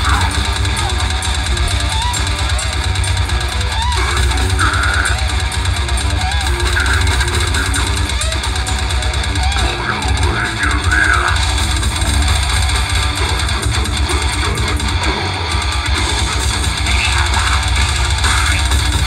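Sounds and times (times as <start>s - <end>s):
live metal band playing: 0.0s - 19.0s.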